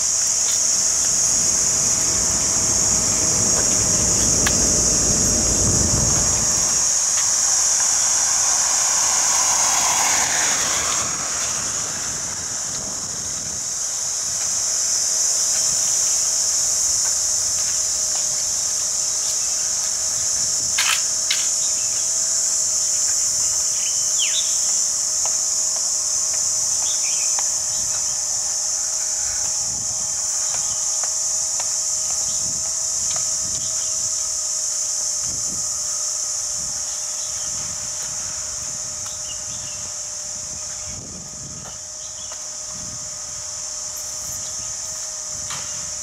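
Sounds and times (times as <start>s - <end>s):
high-pitched insect drone: 0.0s - 46.0s.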